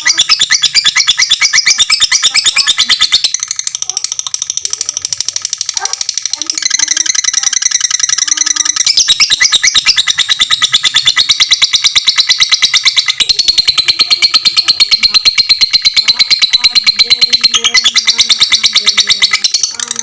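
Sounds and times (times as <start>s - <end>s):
lovebird chattering: 0.0s - 20.0s.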